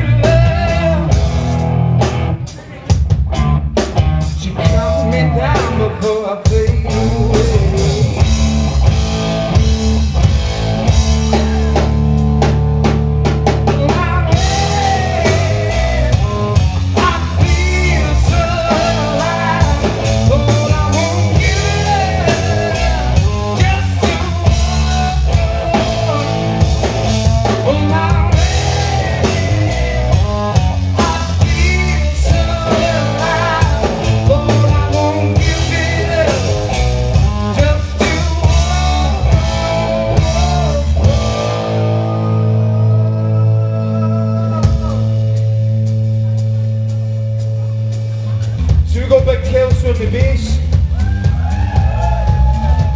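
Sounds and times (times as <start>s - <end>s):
blues-rock band playing: 0.0s - 52.9s.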